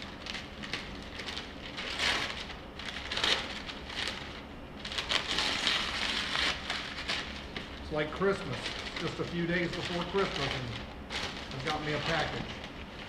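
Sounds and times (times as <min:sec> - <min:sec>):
packing wrap crinkling: 0:00.0 - 0:13.0.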